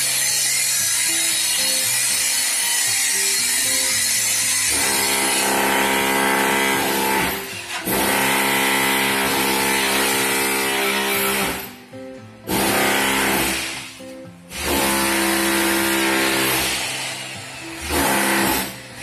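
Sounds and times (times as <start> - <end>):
background music chords: 0.6 - 19.0.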